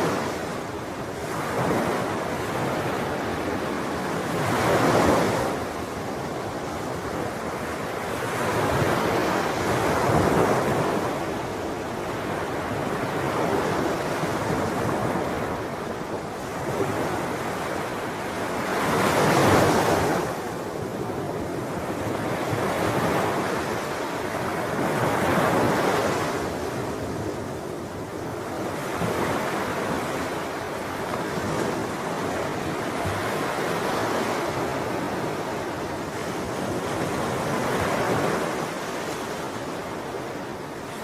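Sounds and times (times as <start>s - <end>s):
ocean waves breaking: 0.0s - 41.0s
wind noise on microphone: 0.0s - 41.0s.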